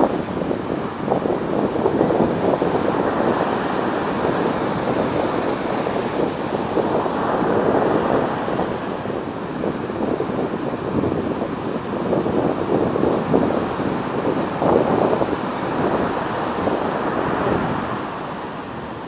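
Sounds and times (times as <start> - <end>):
waves breaking on shore: 0.0 - 19.0
wind buffeting microphone: 0.0 - 19.0.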